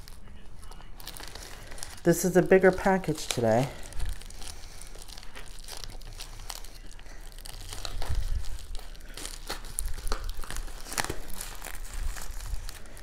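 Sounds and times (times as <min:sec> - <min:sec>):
plastic mailer crinkling: 0:00.0 - 0:13.0.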